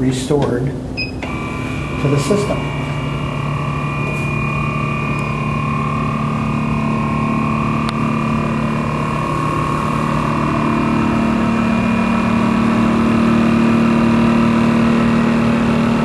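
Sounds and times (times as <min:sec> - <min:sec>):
vacuum mixer humming: 0:00.8 - 0:16.0.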